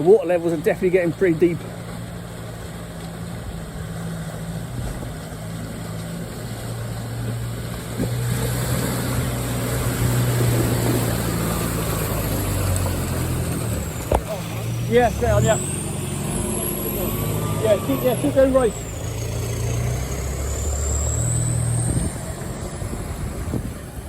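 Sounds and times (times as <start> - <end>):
off-road vehicle engine running: 0.0 - 24.0
tyre and trail noise: 0.0 - 24.0.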